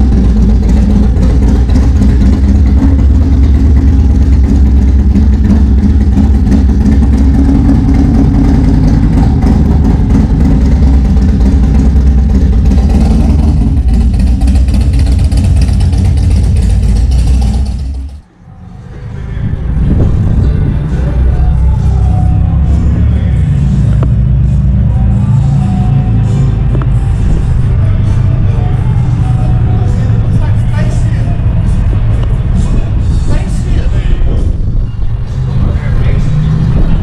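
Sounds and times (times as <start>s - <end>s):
motorcycle engine rumbling: 0.0s - 37.0s.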